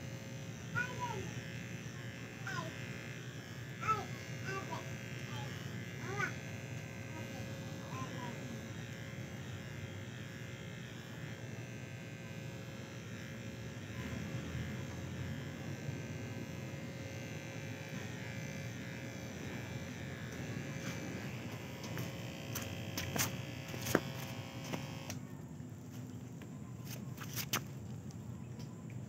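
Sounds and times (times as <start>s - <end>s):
electric hair clipper running: 0.0s - 25.2s.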